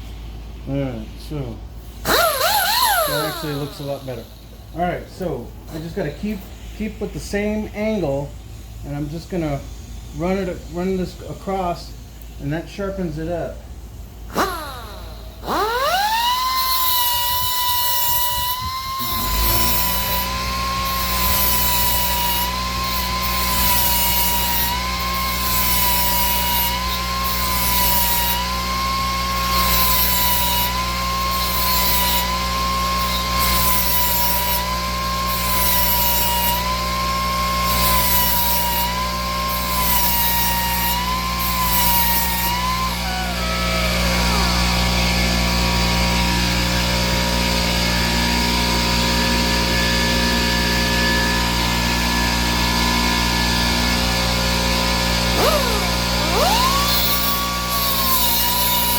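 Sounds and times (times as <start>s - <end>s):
grinding hiss: 0.6s - 44.9s, 55.2s - 58.9s
die grinder whine: 1.4s - 9.4s, 14.1s - 58.9s.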